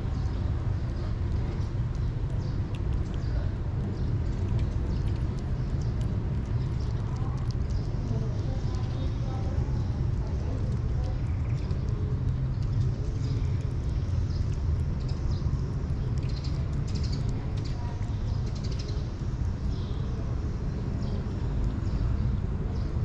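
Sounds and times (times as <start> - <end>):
steady low rumble: 0.0 - 23.0
kitten chewing wet food: 0.1 - 22.6.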